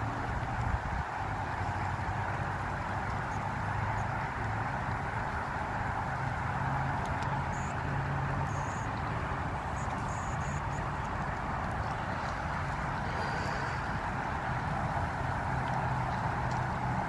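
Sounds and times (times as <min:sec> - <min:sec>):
low engine drone: 0:00.0 - 0:17.0
road traffic rushing: 0:00.0 - 0:17.0.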